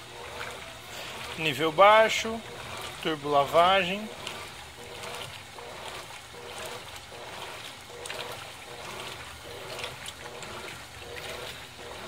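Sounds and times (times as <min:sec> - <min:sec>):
washing machine water sloshing: 0:00.0 - 0:12.0.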